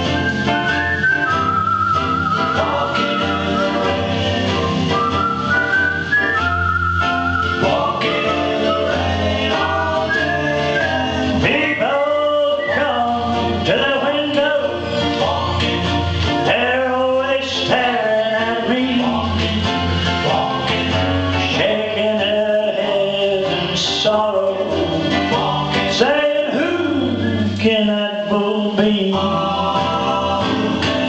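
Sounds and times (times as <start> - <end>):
bass notes: 0.0 - 31.0
guitar: 0.0 - 31.0
man singing country song: 0.0 - 31.0.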